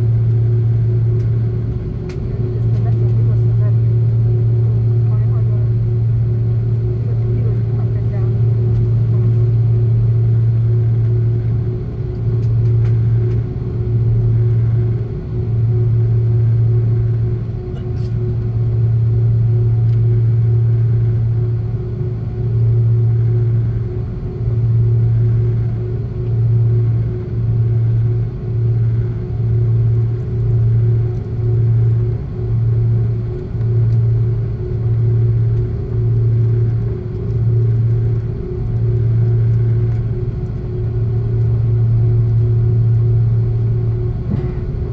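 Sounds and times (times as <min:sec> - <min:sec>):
jet engines droning in cabin: 0:00.0 - 0:44.9.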